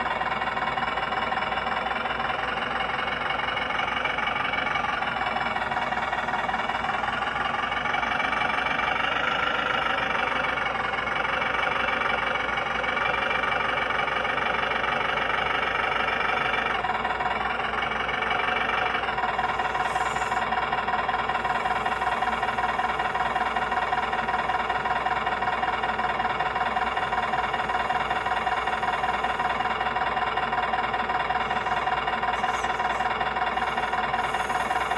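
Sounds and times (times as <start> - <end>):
simulated diesel truck engine: 0.0 - 34.9.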